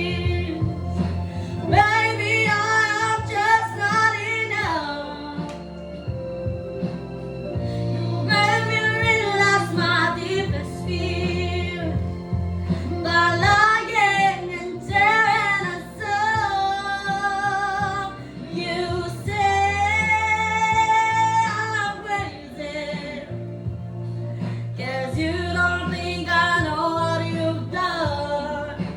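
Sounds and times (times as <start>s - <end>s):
woman singing: 0.0s - 5.8s, 7.9s - 23.4s, 24.8s - 28.9s
instrumental backing music: 0.0s - 28.9s.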